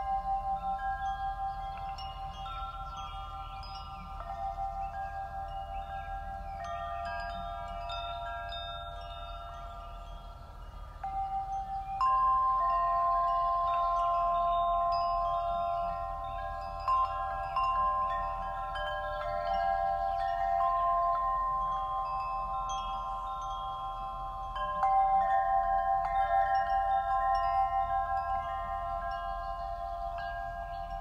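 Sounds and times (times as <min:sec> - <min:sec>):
chimes ringing: 0:00.0 - 0:31.0.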